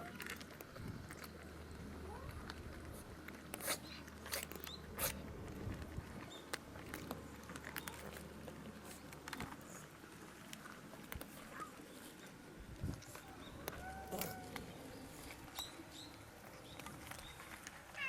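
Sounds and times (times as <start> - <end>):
cats crunching cat food: 0.0 - 18.0.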